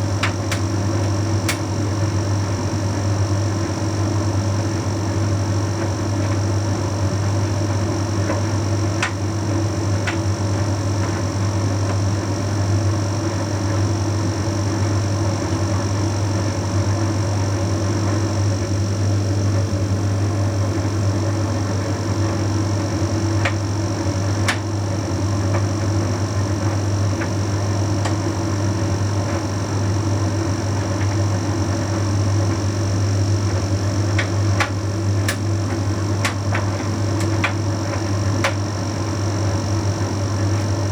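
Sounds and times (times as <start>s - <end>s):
tumble dryer humming: 0.0s - 40.9s.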